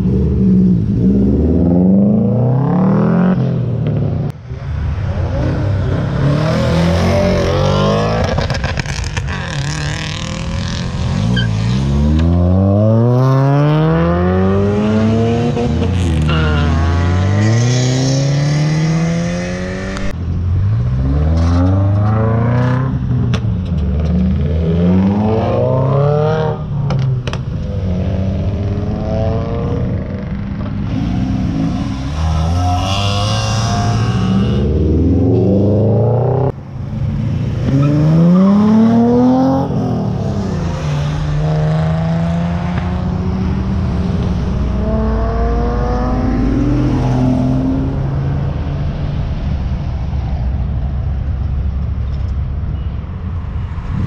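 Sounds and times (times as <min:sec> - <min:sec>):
car engines accelerating hard: 0:00.0 - 0:52.4.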